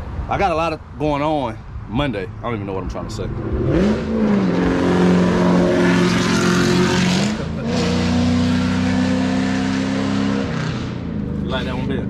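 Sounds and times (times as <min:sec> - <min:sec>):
vehicle drone: 0:00.0 - 0:12.0.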